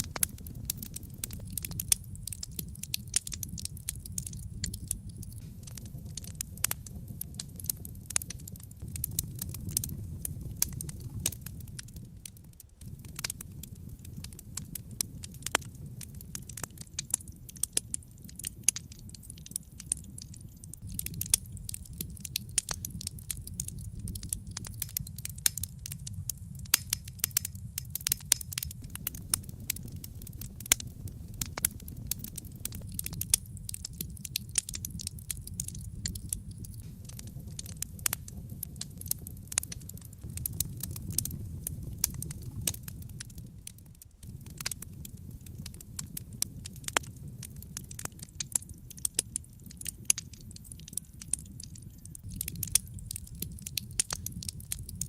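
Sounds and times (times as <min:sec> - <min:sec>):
burning logs crackling and popping: 0:00.0 - 0:55.0
low rumble of flame: 0:00.0 - 0:55.0.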